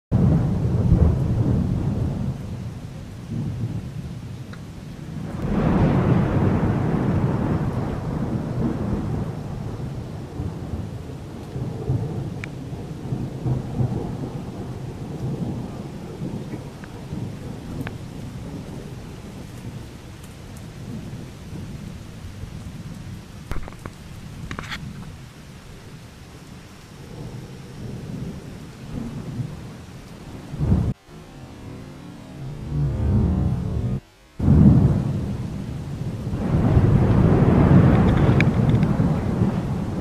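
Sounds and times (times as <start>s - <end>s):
sharp thunder cracks: 0.1s - 4.1s, 5.0s - 22.8s, 27.0s - 31.0s, 32.3s - 40.0s
steady rain: 0.1s - 40.0s
thunder rumbling: 0.1s - 40.0s.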